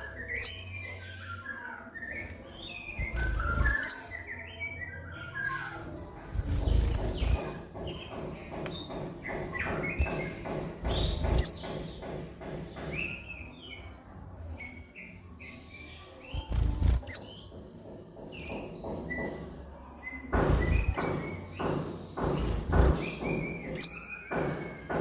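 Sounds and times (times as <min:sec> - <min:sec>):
bird chirping and twittering: 0:00.0 - 0:25.0.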